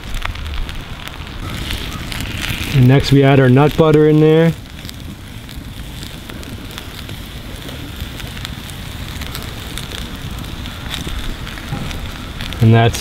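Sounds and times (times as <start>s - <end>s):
cooking fire crackling and popping: 0.0s - 13.0s.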